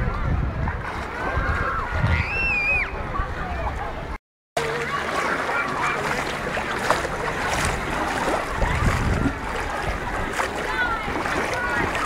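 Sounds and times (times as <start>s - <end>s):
water sloshing and splashing: 0.0s - 2.4s, 4.6s - 12.0s
children shouting and squealing: 0.0s - 3.6s, 4.6s - 12.0s.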